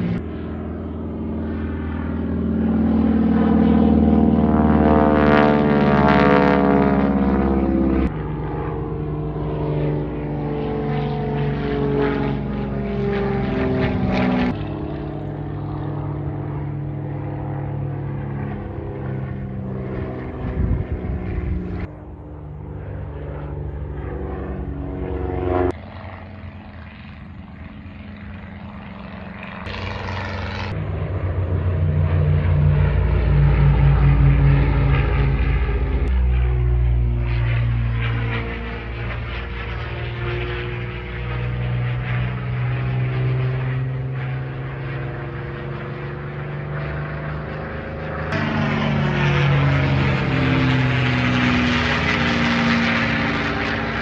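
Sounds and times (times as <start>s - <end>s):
propeller aircraft flying over: 0.0s - 54.0s.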